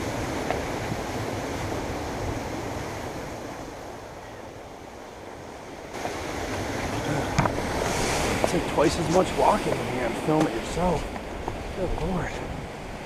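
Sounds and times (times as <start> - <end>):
ocean surf washing in: 0.0 - 13.0.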